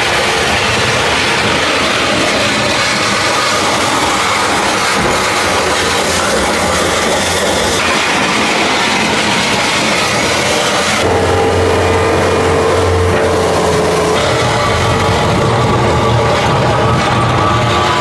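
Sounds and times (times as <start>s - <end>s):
track loader diesel engine: 0.0s - 18.0s.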